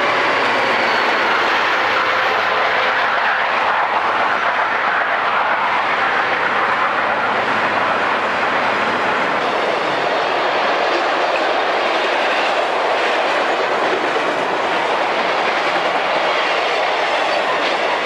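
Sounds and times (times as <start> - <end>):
diesel locomotives working: 0.0 - 18.0.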